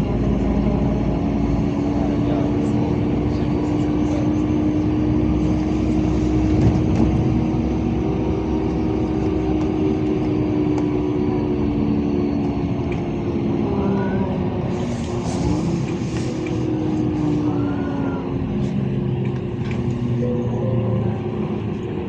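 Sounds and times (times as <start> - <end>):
bus engine drone: 0.0 - 22.0
road noise: 0.0 - 22.0.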